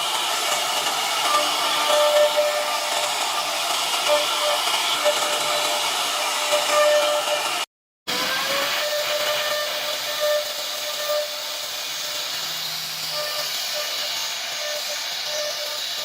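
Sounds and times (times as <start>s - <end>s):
wood router whining: 0.0s - 16.0s.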